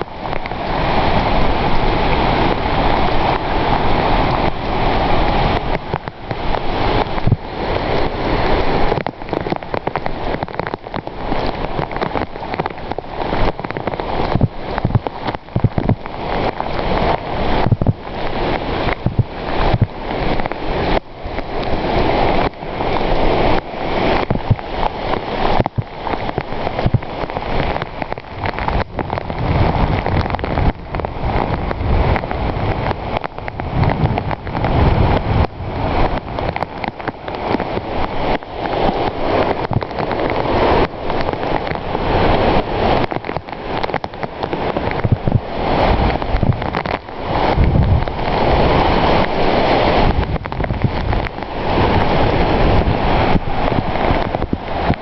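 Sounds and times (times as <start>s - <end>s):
heavy rain pouring: 0.0s - 55.0s
wind buffeting microphone: 0.0s - 55.0s.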